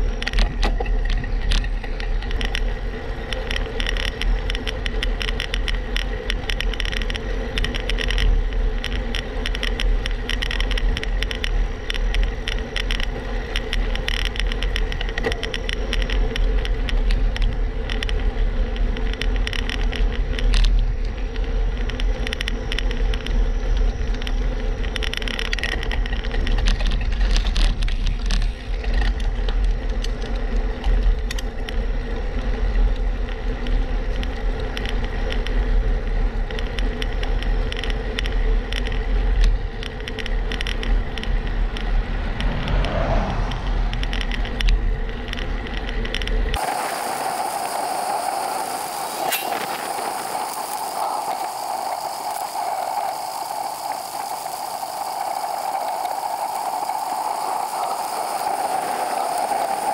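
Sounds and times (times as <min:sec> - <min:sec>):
bicycle clicking and rattling: 0:00.0 - 0:59.9
wind rumble on microphone: 0:00.0 - 0:59.9.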